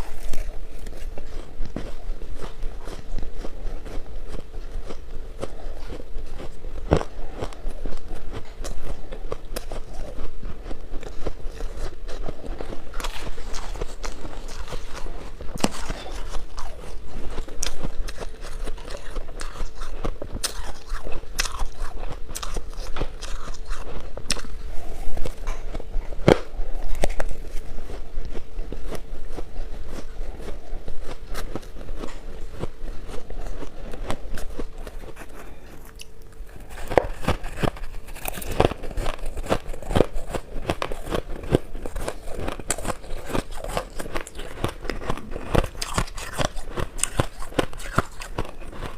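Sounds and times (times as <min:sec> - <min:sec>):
chewing crunchy ice: 0:00.0 - 0:48.9.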